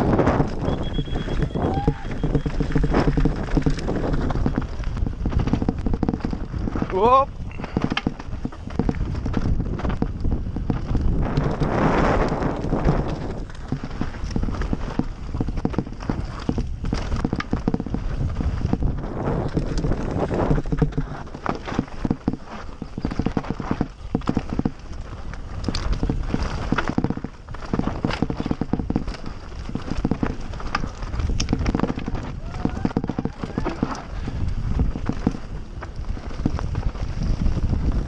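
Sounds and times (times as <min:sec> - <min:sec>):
bike rattling: 0:00.0 - 0:38.0
tyres crunching over stone: 0:00.0 - 0:38.0
wind on microphone: 0:00.0 - 0:38.0.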